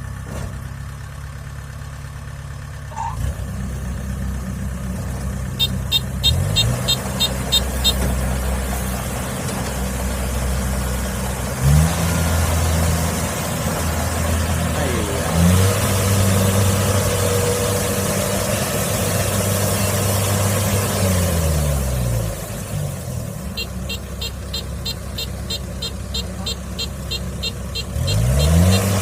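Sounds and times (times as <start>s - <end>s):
diesel engine revving under load: 2.8s - 29.0s.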